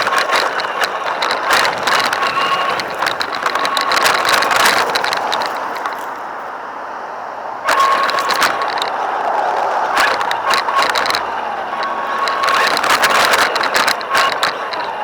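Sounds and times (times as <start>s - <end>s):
toy car motor whining: 0.0s - 6.7s, 7.5s - 15.0s
tyres scrabbling and clicking: 0.0s - 15.0s.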